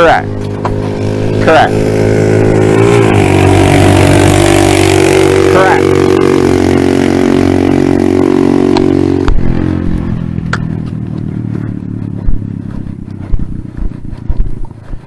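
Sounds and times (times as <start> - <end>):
faint engine rumble: 0.0 - 15.0
vehicle engine running: 0.0 - 15.0.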